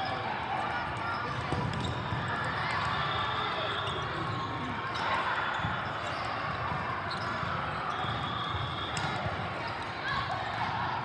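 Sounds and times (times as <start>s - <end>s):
echoing murmur of voices: 0.0s - 11.0s.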